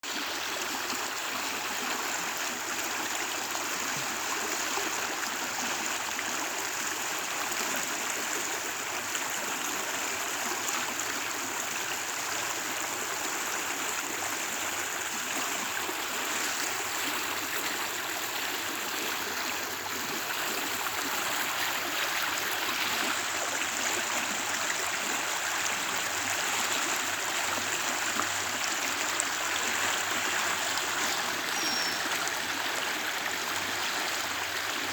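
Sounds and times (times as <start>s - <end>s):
creek flowing over rocks: 0.0s - 34.9s.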